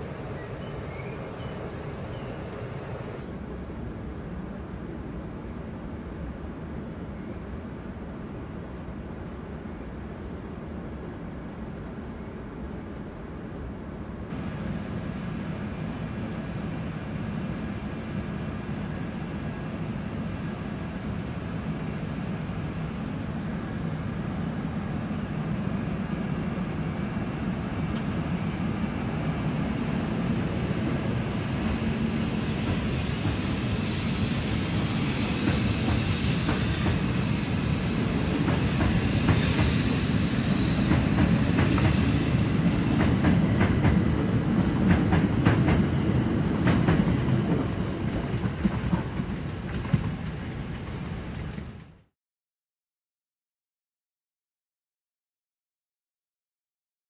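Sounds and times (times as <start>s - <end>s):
train rumbling on rails: 0.0s - 52.1s.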